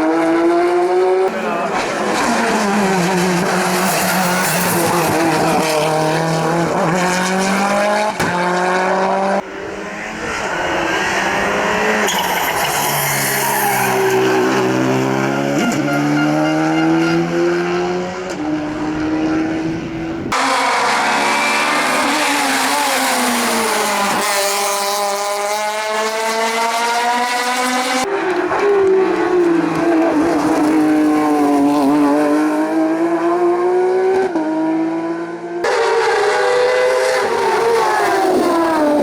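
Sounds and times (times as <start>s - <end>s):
racing car engines revving: 0.0s - 39.0s.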